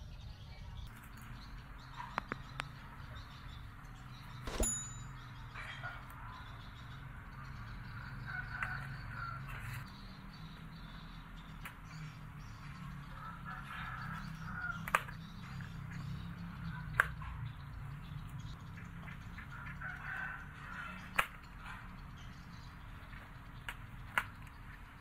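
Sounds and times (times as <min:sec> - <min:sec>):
birds calling: 0:00.0 - 0:25.0.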